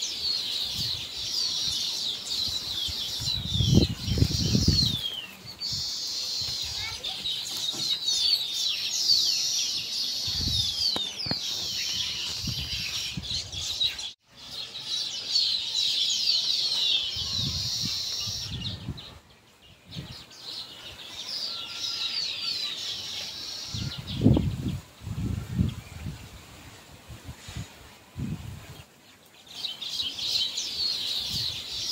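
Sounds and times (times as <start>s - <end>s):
small birds twittering: 0.0s - 31.9s.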